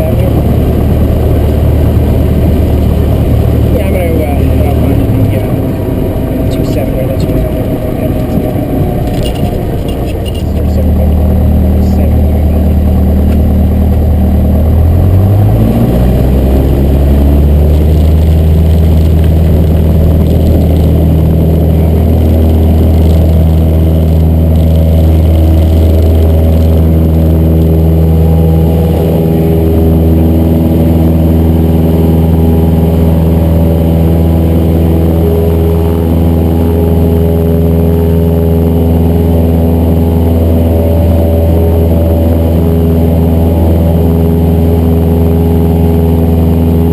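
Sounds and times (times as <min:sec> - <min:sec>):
light aircraft engine and propeller: 0:00.0 - 0:46.9.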